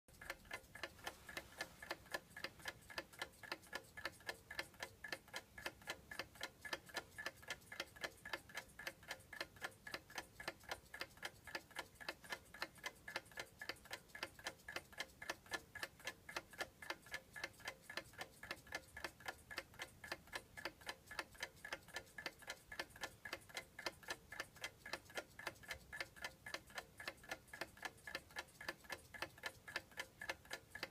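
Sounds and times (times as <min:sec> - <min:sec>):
alarm clock ticking: 0:00.1 - 0:30.9.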